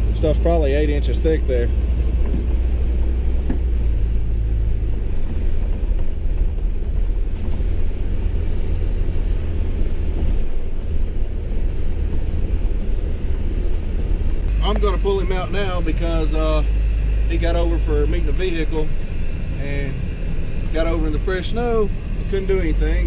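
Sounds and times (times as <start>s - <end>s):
low hum: 0.0s - 23.0s
vehicle driving through snow: 0.0s - 23.0s.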